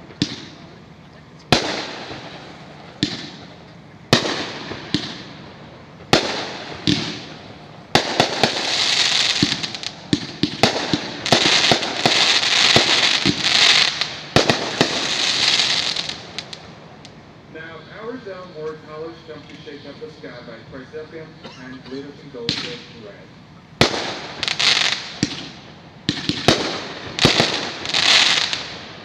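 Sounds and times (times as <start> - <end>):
fireworks shells bursting with bangs: 0.0 - 17.2, 17.9 - 29.0
crackling firework stars: 0.0 - 29.0.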